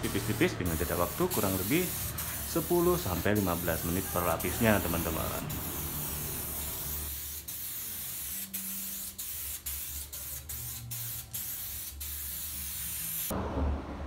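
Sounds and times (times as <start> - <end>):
aerosol spray can hissing: 0.0 - 13.3.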